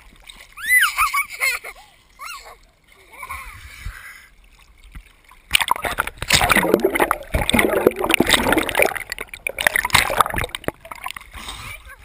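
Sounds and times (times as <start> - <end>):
pool water splashing and bubbling: 0.0 - 3.6, 4.3 - 11.6.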